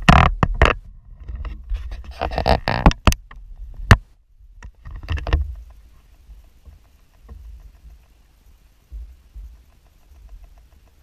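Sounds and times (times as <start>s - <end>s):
faint small ticks: 0.0s - 11.0s.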